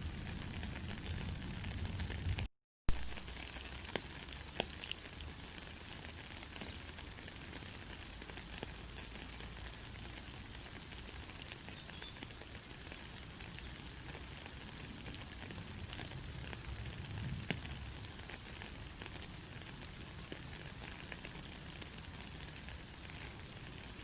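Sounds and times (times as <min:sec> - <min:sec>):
fine crackle: 0:00.0 - 0:24.0.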